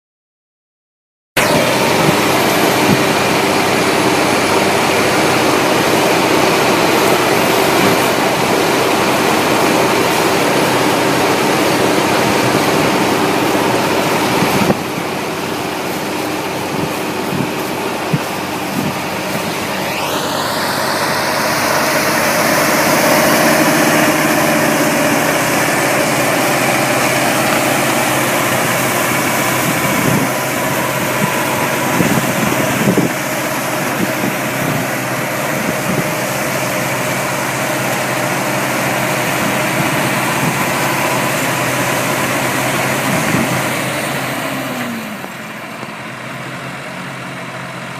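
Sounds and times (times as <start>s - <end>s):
high whine: 1.4s - 46.9s
rotary tiller in soil: 1.4s - 47.9s
tractor diesel engine under load: 1.4s - 47.9s.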